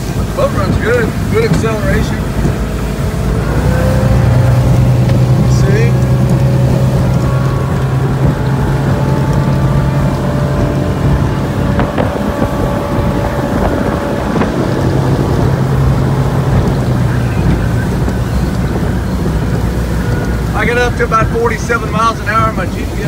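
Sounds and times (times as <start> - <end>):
boat engine running: 0.0 - 23.0
water rushing along hull: 0.0 - 23.0
wind noise on microphone: 0.0 - 23.0.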